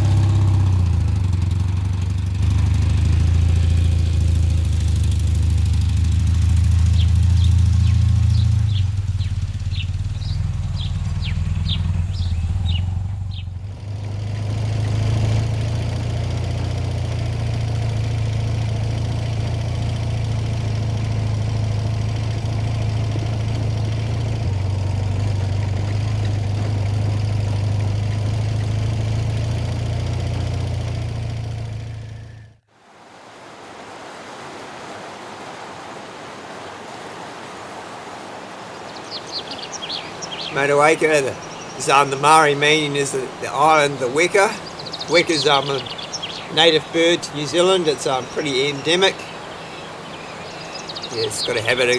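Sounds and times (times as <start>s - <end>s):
motorcycle engine running: 0.0s - 32.6s, 38.8s - 51.9s.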